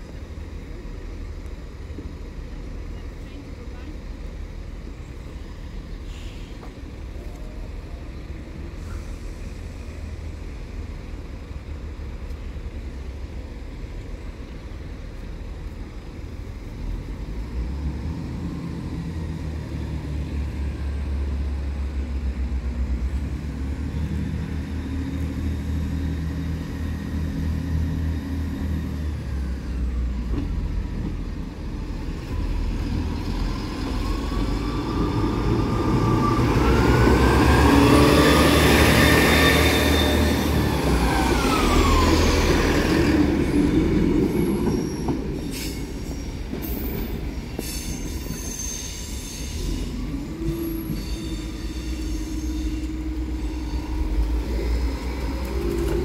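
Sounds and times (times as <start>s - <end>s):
diesel train engine rumble: 0.0s - 56.0s
distant traffic: 0.0s - 56.0s
wind: 0.0s - 56.0s.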